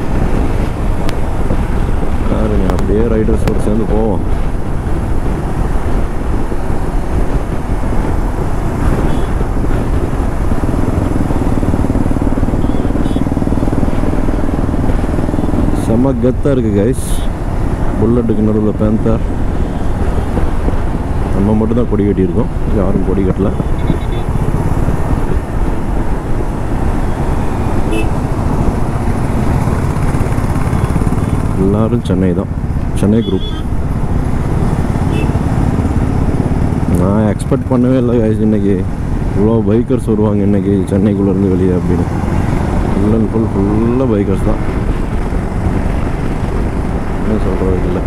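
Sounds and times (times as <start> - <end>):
motorcycle engines cruising: 0.0 - 48.0
wind noise on microphone: 0.0 - 48.0.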